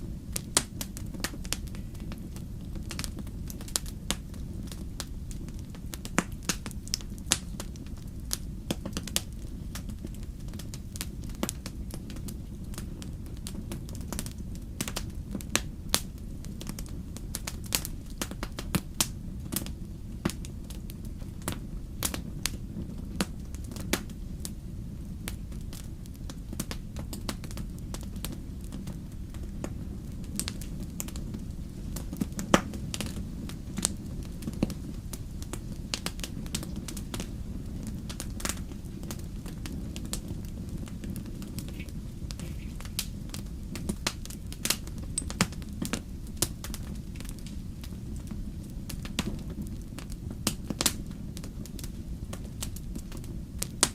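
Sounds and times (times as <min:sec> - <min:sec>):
fire crackling and popping: 0:00.0 - 0:53.9
low rumble of flames: 0:00.0 - 0:53.9.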